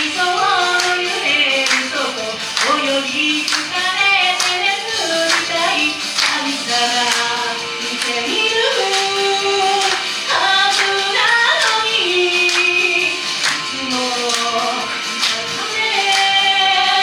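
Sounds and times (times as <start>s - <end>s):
high voices singing: 0.0s - 17.0s
steady pop beat: 0.0s - 17.0s.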